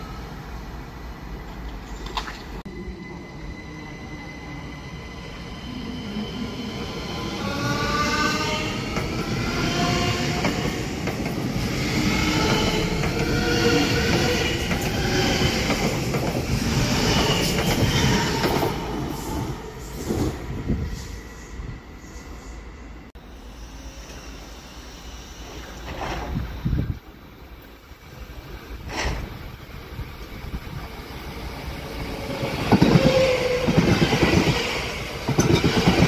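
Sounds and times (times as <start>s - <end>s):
electric train passing: 2.7s - 36.0s.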